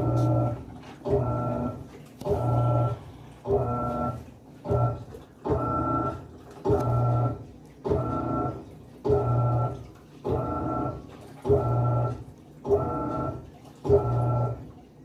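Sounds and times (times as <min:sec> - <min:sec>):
washing machine motor agitating: 0:00.0 - 0:15.0.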